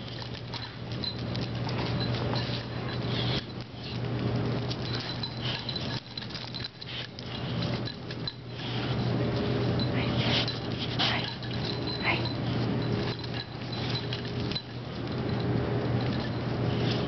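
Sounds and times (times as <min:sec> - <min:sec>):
collar tags jingling: 0:00.0 - 0:17.0
steady low hum: 0:00.0 - 0:17.0.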